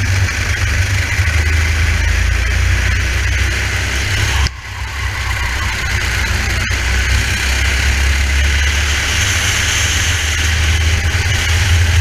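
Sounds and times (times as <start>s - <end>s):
kart engine running: 0.0s - 12.0s
rushing noise: 0.0s - 12.0s.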